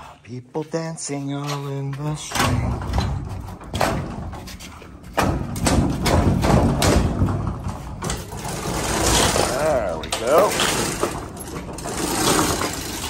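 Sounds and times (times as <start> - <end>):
footsteps on concrete floor: 0.0 - 13.0
knocks and clatter: 1.4 - 13.0.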